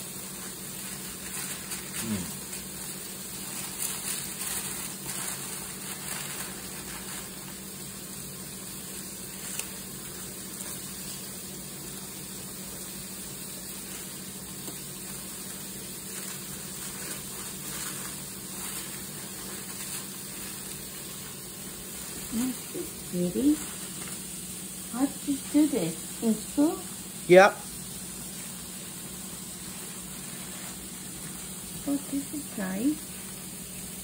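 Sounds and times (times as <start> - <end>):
background hiss: 0.0 - 34.0
tissue paper rustling: 0.0 - 34.0.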